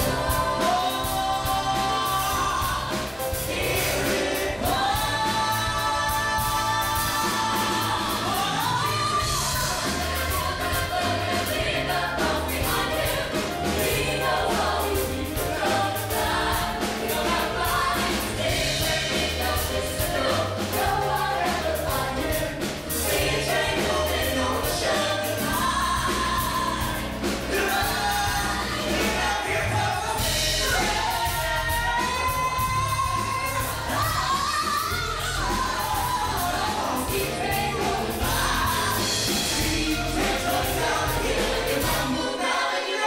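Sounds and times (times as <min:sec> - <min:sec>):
drums: 0:00.0 - 0:43.0
people singing together: 0:00.0 - 0:43.0
piano: 0:00.0 - 0:43.0.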